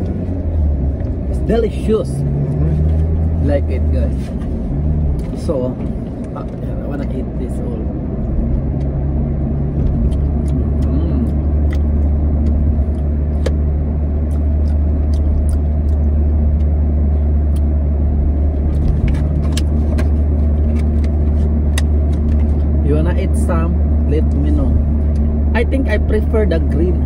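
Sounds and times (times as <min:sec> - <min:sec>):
car cabin rumble: 0:00.0 - 0:27.0.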